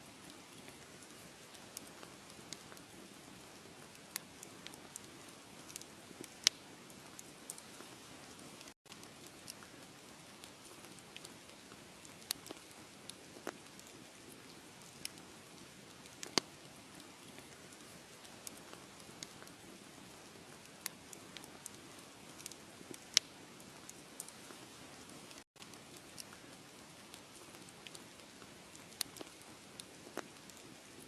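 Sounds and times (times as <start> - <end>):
wood fire crackling and popping: 0.2 - 31.0.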